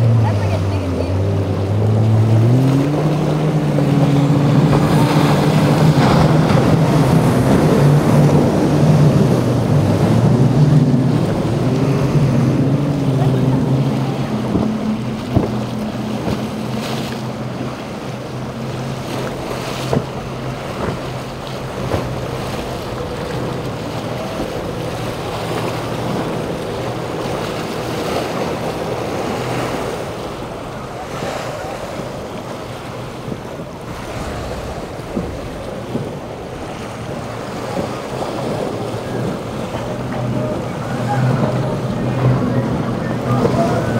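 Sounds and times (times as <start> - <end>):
faint boat engines: 0.0 - 43.9
waves and surf washing: 0.0 - 43.9
wind buffeting microphone: 0.0 - 43.9.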